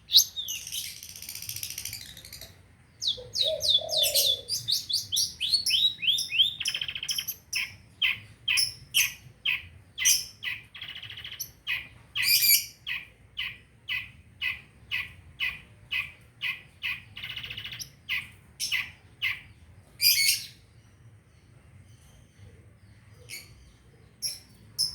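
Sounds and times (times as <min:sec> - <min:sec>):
bird sharp repeated chirps: 0:00.0 - 0:19.4, 0:24.2 - 0:24.9.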